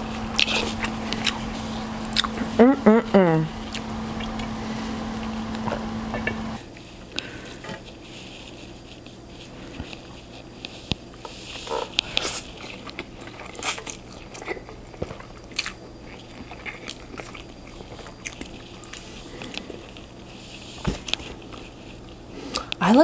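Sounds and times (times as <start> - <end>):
person chewing noodles: 0.0 - 2.7, 3.6 - 22.7.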